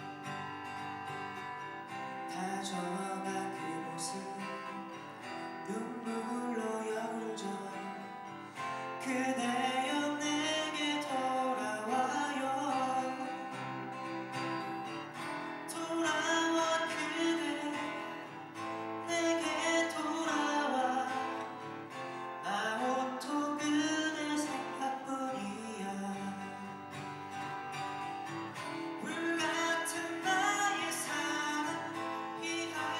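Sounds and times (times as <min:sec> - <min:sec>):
acoustic guitars strummed and plucked: 0:00.0 - 0:32.9.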